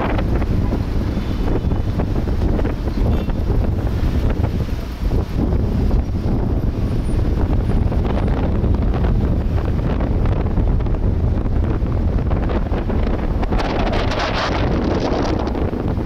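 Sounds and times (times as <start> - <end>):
traffic noise: 0.0 - 16.0
wind buffeting microphone: 0.0 - 16.0.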